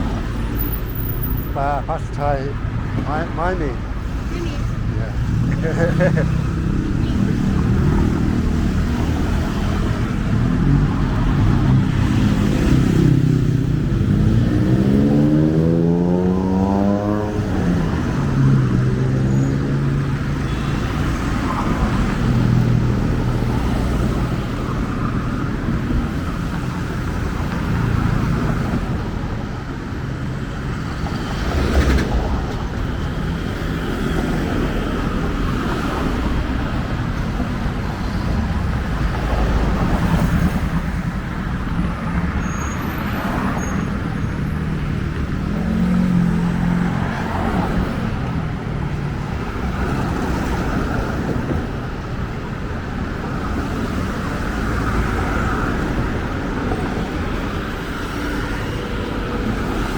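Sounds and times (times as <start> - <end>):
passing cars and motorbikes: 0.0 - 59.9.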